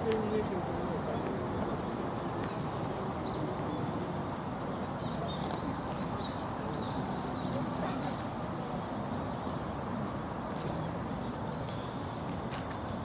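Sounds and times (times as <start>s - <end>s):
background murmur: 0.0s - 13.0s
small birds chirping: 0.0s - 13.0s.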